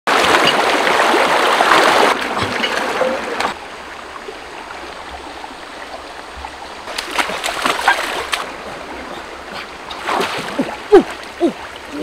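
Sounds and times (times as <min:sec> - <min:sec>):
stream rushing over rocks: 0:00.1 - 0:12.0.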